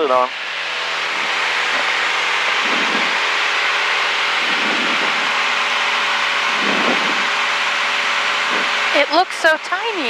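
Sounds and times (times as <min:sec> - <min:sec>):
air noise in cabin: 0:00.0 - 0:10.0
light aircraft engine drone: 0:00.0 - 0:10.0.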